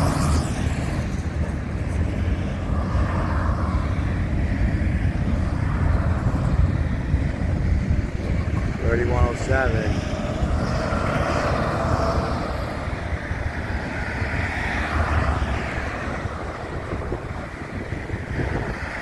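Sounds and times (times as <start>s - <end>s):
cars passing: 0.0s - 19.0s
steady traffic rumble: 0.0s - 19.0s
truck passing: 0.0s - 19.0s
wind buffeting microphone: 0.0s - 19.0s.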